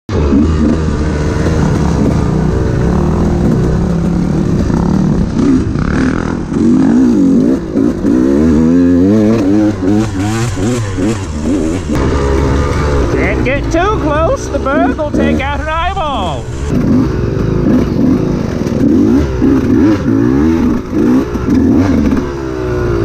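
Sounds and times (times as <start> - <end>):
dirt bike engine revving: 0.1 - 23.0.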